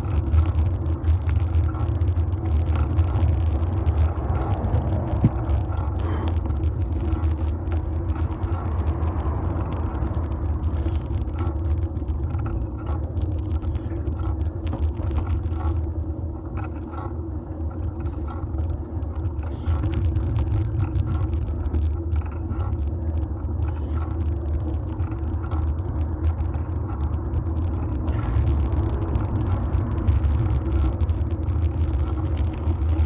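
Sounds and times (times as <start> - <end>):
bike tyres rumbling on road: 0.0 - 33.0
small rattles and clicks: 0.0 - 33.0.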